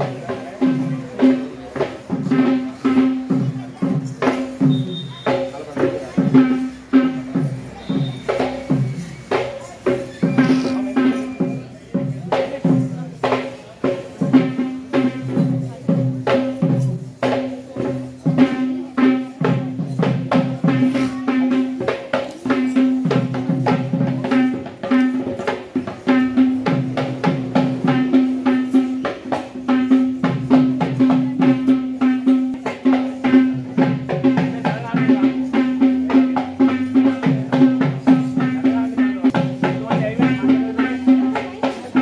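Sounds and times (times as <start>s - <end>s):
fast traditional drumming: 0.0s - 42.0s.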